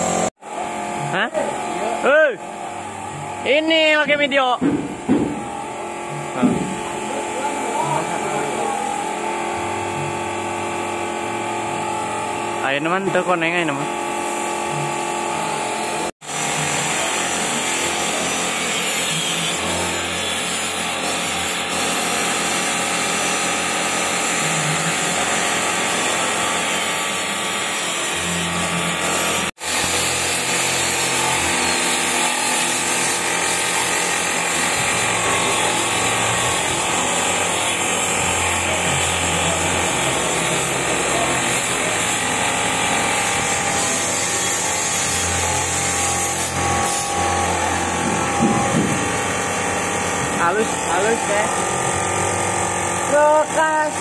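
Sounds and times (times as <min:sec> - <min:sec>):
workshop tool hissing and whirring: 0:00.0 - 0:54.0.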